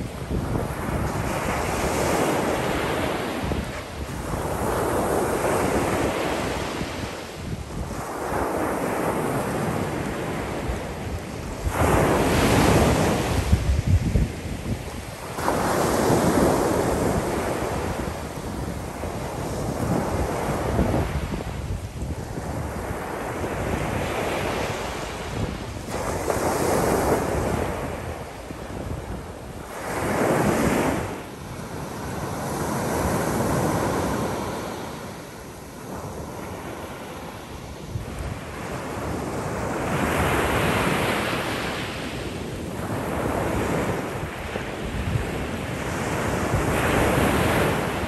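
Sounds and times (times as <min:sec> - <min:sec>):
waves breaking on beach: 0:00.0 - 0:48.0.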